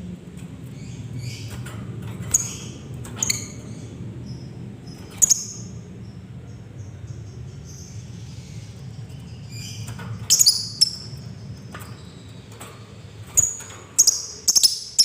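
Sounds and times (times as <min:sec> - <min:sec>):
steady low hum: 0:00.0 - 0:15.0
bird chirping: 0:00.7 - 0:15.0.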